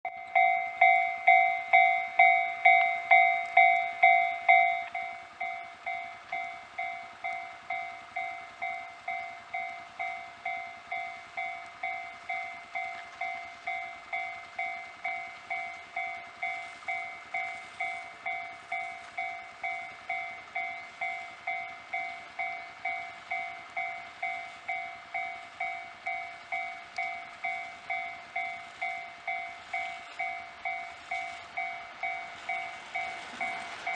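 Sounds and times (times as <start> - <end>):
level crossing warning bell ringing: 0.0 - 33.9.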